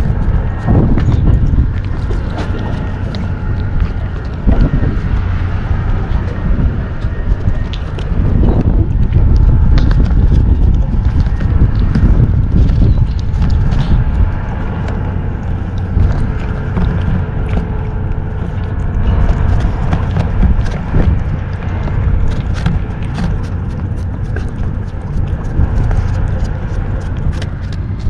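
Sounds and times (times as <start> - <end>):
kitten chewing and licking: 0.0 - 28.0
steady low rumble: 0.0 - 28.0.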